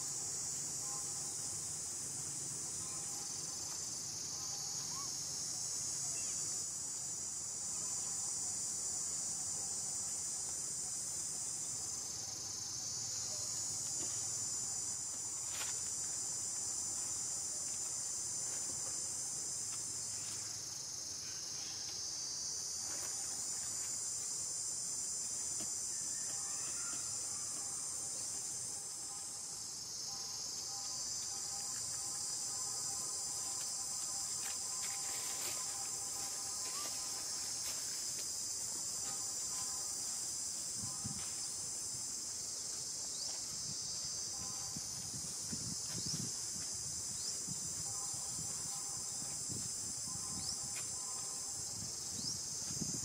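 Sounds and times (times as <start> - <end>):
insect chorus drone: 0.0 - 53.0.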